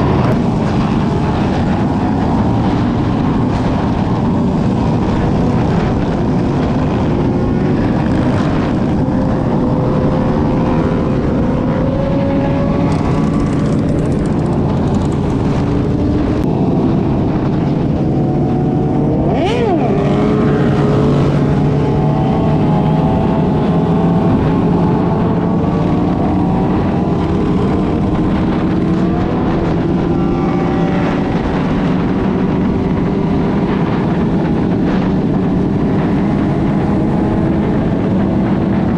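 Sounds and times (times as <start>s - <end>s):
motorcycle engines running: 0.0s - 38.9s
steady rushing noise: 0.0s - 38.9s.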